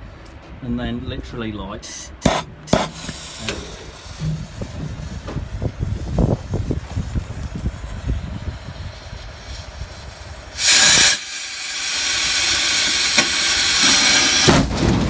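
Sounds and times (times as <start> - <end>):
firework hissing: 1.8 - 15.0.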